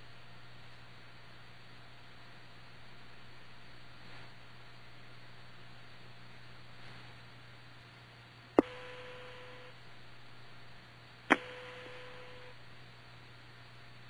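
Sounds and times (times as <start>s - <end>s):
steady hum under hiss: 0.0s - 14.0s.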